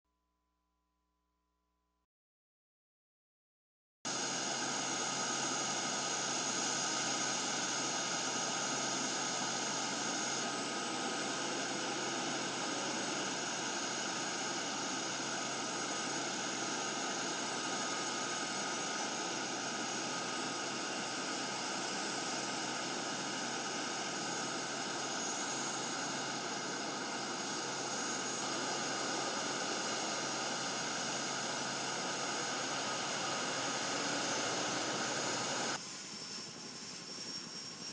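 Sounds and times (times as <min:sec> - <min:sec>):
helicopter turbine engines rushing: 0:04.1 - 0:37.9
high turbine whines: 0:04.1 - 0:37.9.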